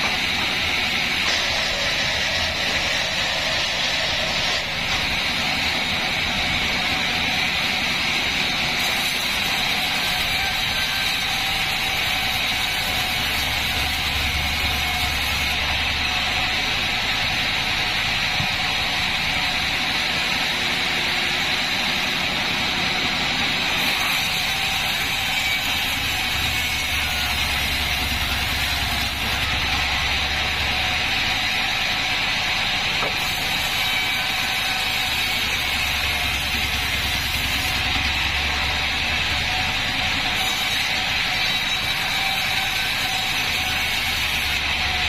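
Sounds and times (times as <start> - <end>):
band sawmill cutting log: 0.0 - 45.0.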